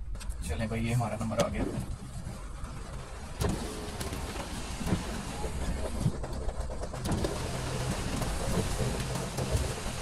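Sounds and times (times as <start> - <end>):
heavy rain on car roof: 1.0 - 10.0.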